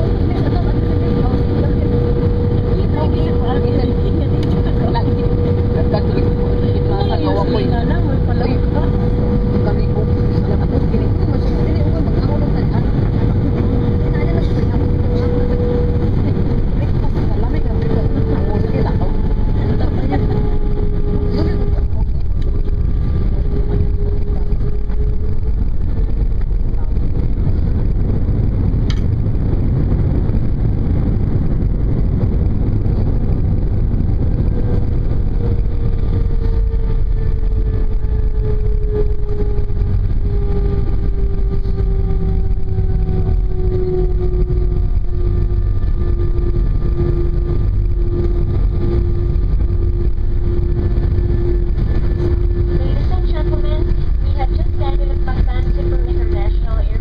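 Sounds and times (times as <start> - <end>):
aircraft engines rumbling: 0.0 - 57.0.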